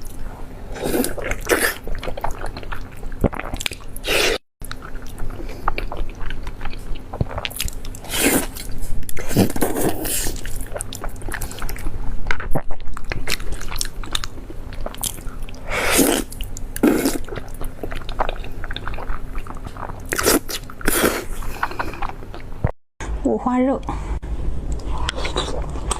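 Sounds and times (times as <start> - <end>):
person chewing food: 0.0 - 22.7, 24.7 - 25.9.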